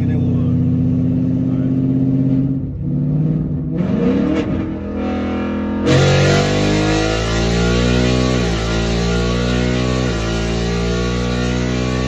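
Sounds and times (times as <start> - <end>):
loud car engine accelerating: 0.0 - 12.0.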